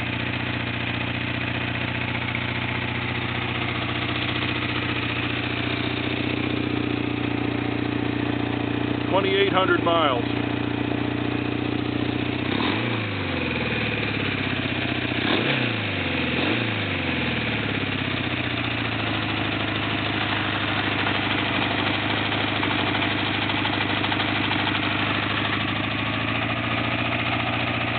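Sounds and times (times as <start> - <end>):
motorcycle engine idling and revving: 0.0 - 27.9.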